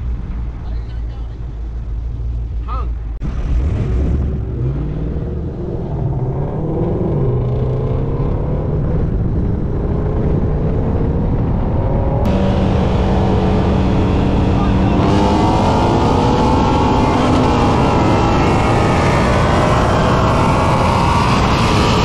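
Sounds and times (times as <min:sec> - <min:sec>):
vee eight engines accelerating: 0:00.0 - 0:22.0.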